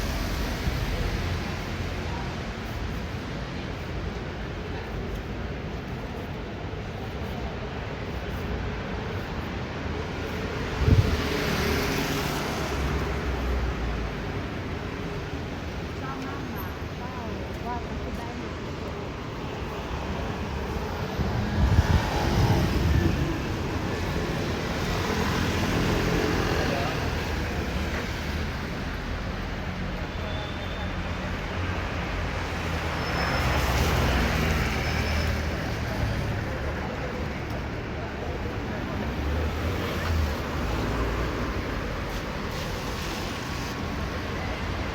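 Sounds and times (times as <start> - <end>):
vehicle passing on wet street: 0.0 - 5.5, 8.6 - 44.9.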